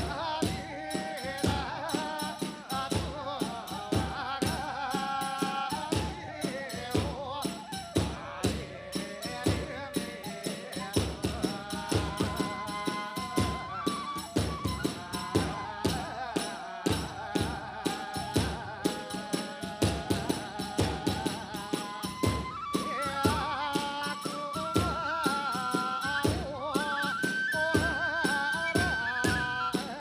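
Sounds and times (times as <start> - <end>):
bamboo flute: 0.0 - 30.0
drum beat: 0.0 - 30.0
hand cymbals: 0.0 - 30.0.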